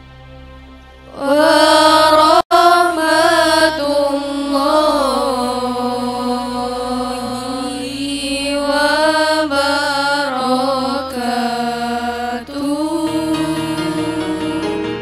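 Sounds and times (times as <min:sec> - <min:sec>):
girls chanting in unison: 0:01.1 - 0:14.6.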